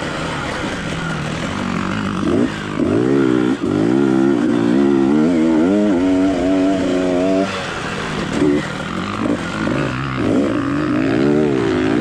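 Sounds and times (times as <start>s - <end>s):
motocross engine revving: 0.0s - 12.0s.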